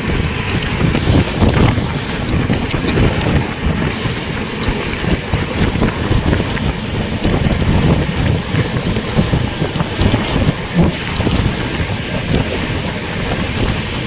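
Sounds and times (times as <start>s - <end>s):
moving train rumble: 0.0s - 14.0s
wind rushing on microphone: 0.0s - 14.0s.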